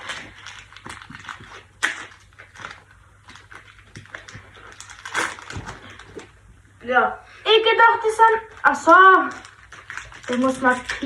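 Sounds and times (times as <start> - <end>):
candy wrapper crinkling: 0.0 - 6.5, 8.0 - 11.0.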